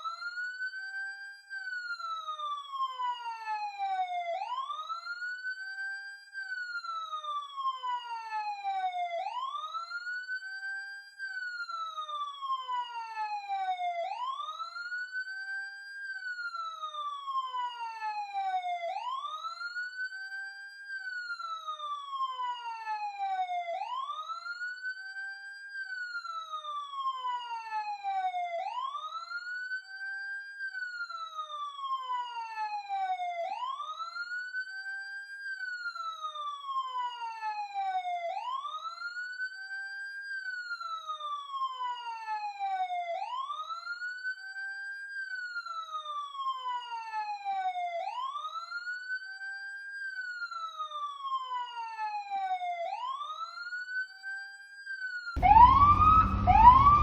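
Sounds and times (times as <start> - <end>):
police siren wailing: 1.8 - 5.9, 6.6 - 10.7, 11.4 - 15.3, 16.3 - 20.4, 21.0 - 57.0.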